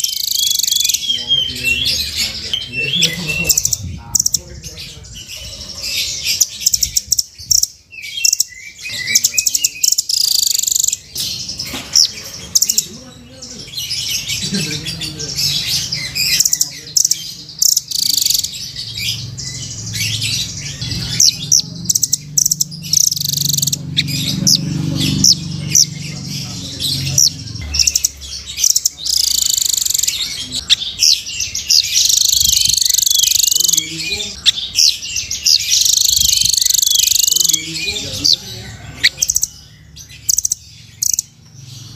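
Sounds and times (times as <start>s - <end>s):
bird high-pitched chirps and trills: 0.0s - 41.9s.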